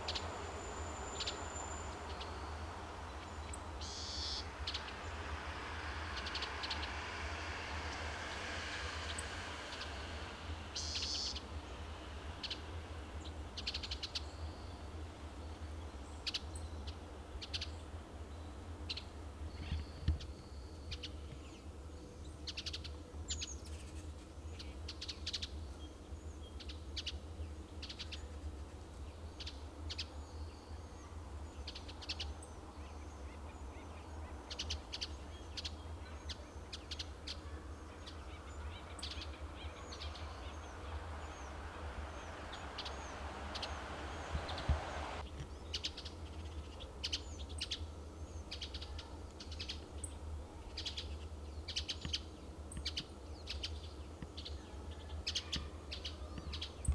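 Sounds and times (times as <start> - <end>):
birds chirping: 0.0 - 56.9
steady low rumble: 0.0 - 56.9.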